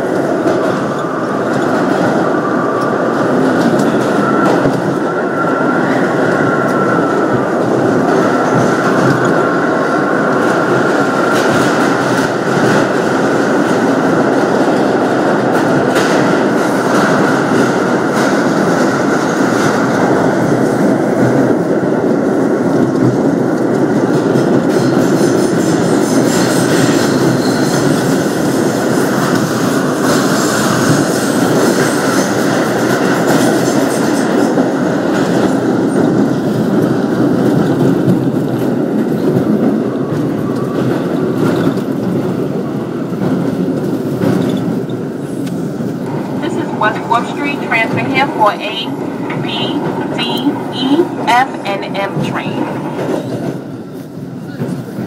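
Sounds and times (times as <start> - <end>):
subway train rumbling in tunnel: 0.0 - 55.0.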